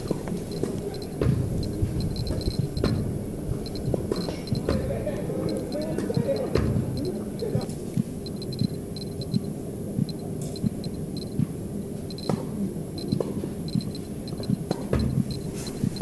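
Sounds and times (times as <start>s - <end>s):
dosimeter beeping: 0.0s - 9.5s, 10.1s - 11.4s, 12.1s - 12.4s, 13.0s - 16.0s.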